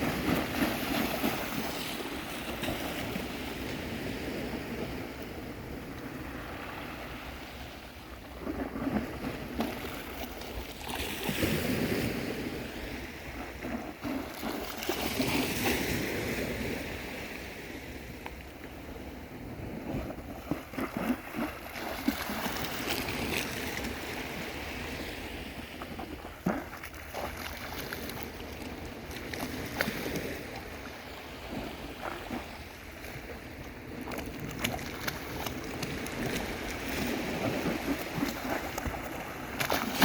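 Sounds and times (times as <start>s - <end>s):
sea waves breaking: 0.0s - 40.0s.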